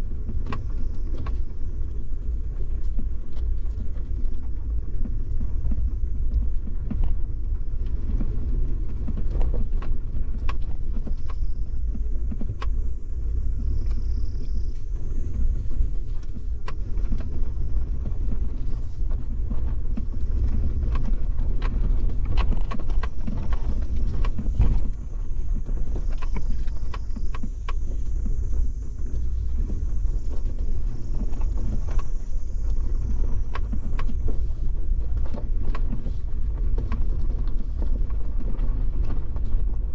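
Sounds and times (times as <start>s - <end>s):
vehicle low rumble: 0.0s - 39.9s.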